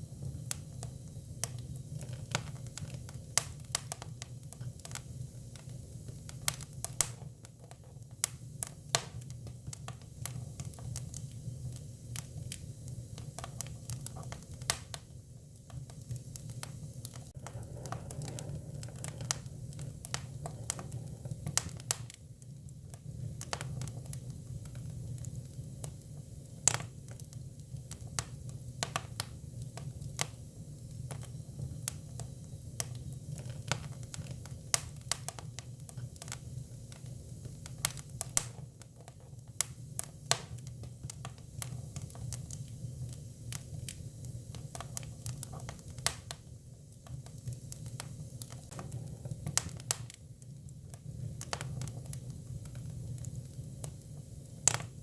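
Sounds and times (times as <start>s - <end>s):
firewood crackling: 0.1s - 55.0s.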